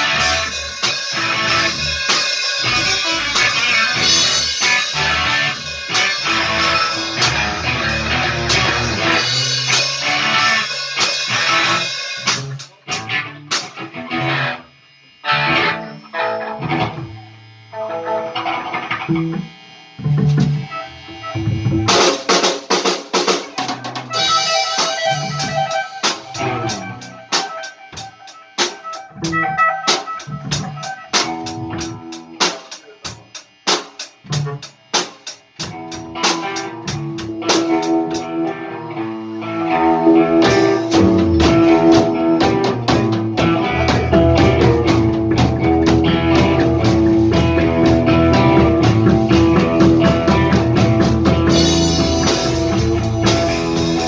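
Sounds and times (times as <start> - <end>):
drum kit: 0.0 - 14.6, 18.8 - 54.0
bass guitar: 0.0 - 33.6, 34.2 - 54.0
electric guitars: 0.0 - 54.0.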